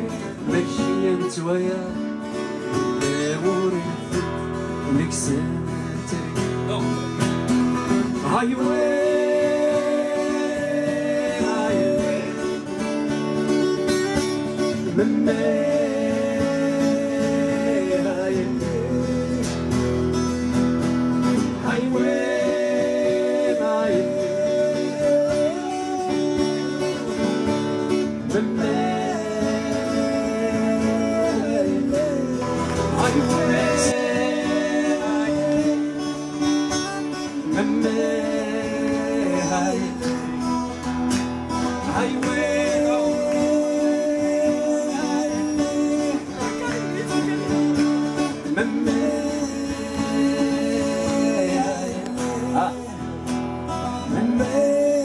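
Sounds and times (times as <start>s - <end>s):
men singing: 0.0s - 2.1s, 3.1s - 6.6s, 7.9s - 13.4s, 14.4s - 55.0s
strummed acoustic guitars: 0.0s - 55.0s.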